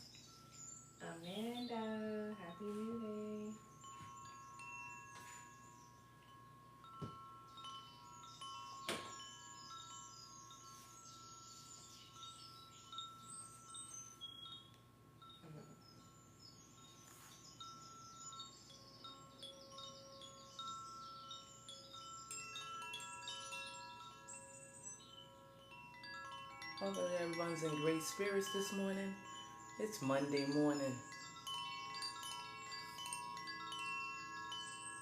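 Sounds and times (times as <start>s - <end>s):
wind chimes tinkling: 0.0s - 35.0s.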